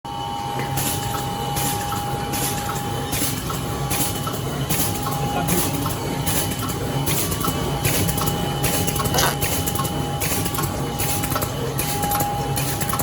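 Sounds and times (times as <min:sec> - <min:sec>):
machine hum: 0:00.1 - 0:13.0.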